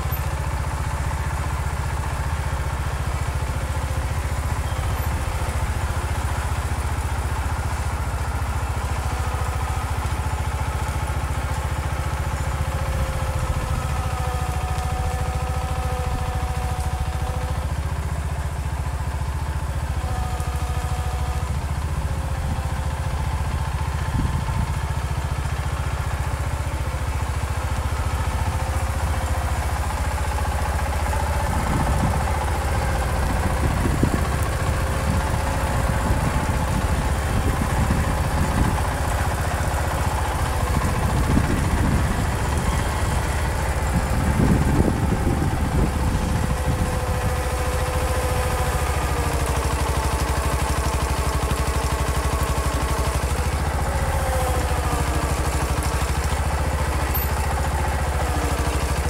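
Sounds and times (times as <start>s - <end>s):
engine whine: 0.0s - 59.0s
garden tractor engine running: 0.0s - 59.0s.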